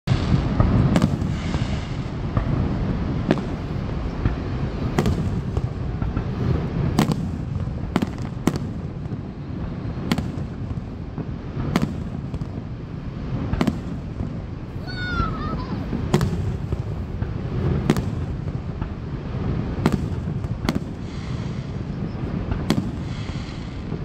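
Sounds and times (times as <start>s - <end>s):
fireworks bangs: 0.1s - 24.0s.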